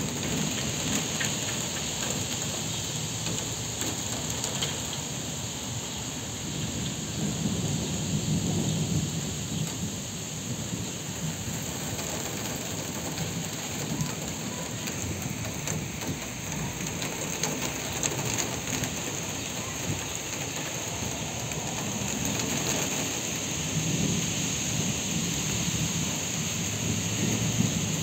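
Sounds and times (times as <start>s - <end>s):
rain drops tapping: 0.0s - 28.0s
wind gusting through trees: 0.0s - 28.0s.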